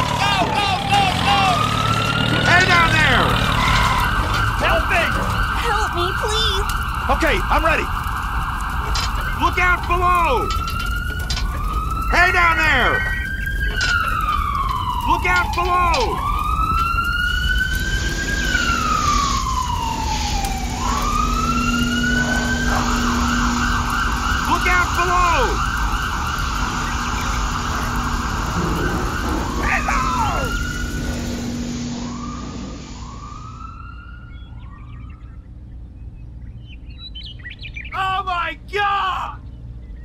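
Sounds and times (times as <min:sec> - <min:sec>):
siren wailing: 0:00.0 - 0:35.6.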